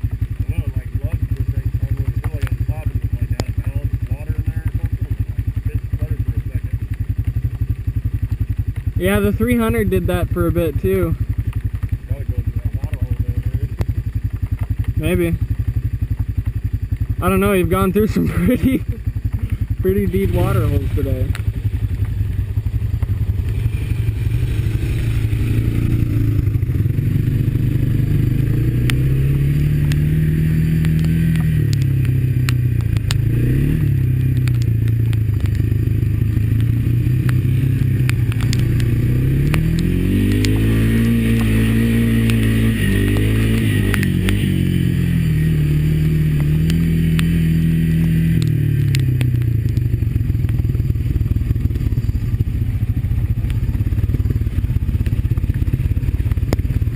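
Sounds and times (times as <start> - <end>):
atv engine revving: 0.0 - 56.9
vehicle clattering over rough ground: 0.0 - 56.9.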